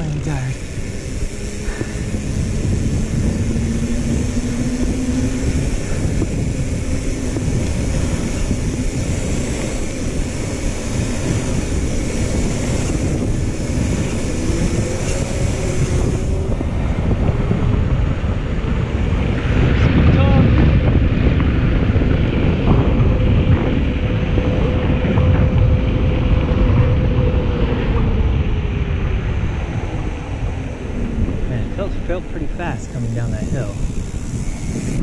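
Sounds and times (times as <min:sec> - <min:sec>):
bike tyres rolling on asphalt: 0:00.0 - 0:35.0
wind buffeting microphone: 0:00.0 - 0:35.0.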